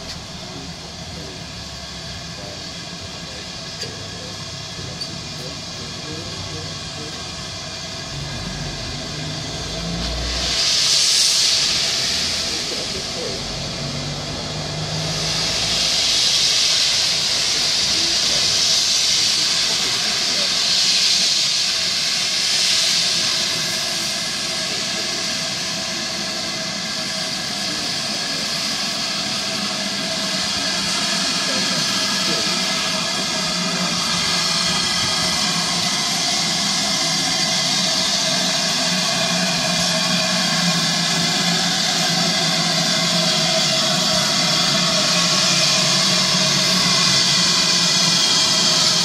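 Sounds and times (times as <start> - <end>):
steam locomotive hissing: 0.0 - 49.0.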